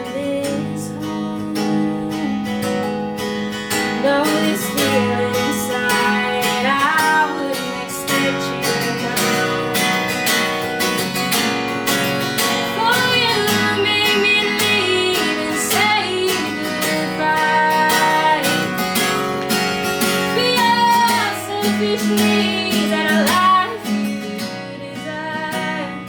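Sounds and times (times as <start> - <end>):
person singing: 0.0 - 3.0, 3.9 - 10.6, 12.4 - 19.2, 20.1 - 26.0
acoustic guitar strumming: 0.0 - 26.0.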